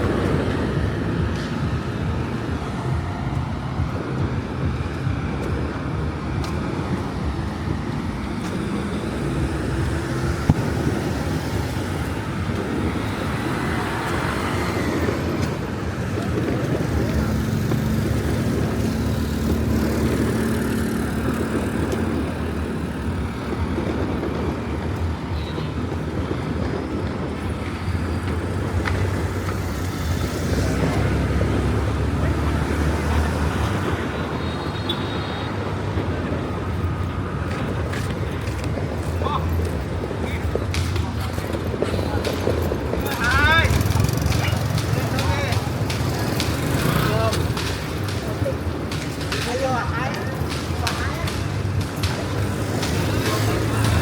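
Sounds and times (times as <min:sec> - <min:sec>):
vehicle engines passing: 0:00.0 - 0:54.0.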